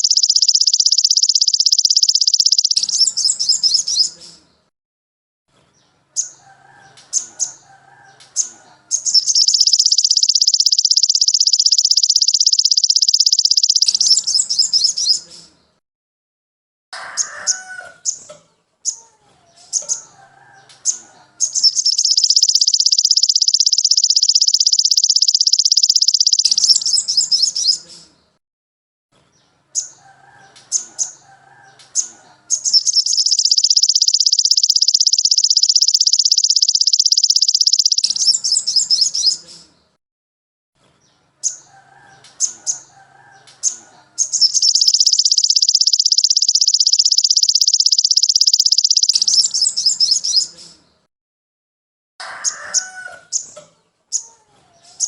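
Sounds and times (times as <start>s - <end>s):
songbird chirping and trilling: 0.0s - 4.7s, 5.6s - 15.8s, 17.0s - 28.4s, 29.2s - 40.0s, 40.9s - 51.1s, 52.2s - 55.0s.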